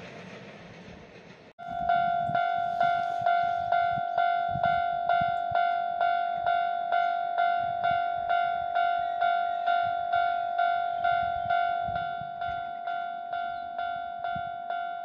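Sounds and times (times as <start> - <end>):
level crossing warning bell: 1.6 - 15.0.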